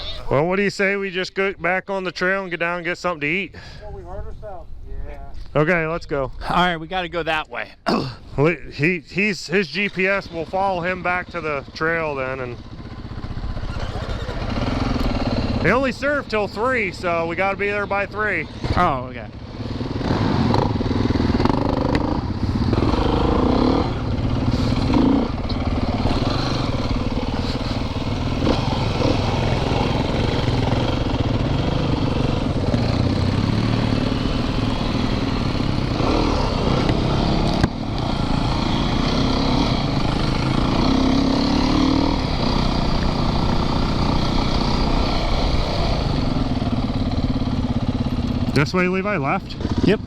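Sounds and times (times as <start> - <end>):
dirt bike engine running: 8.8 - 50.0.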